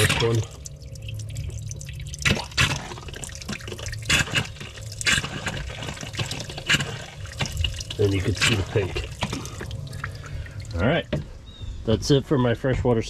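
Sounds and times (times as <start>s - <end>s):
water spurting from spigot: 0.0s - 11.2s
low steady hum: 0.0s - 13.0s.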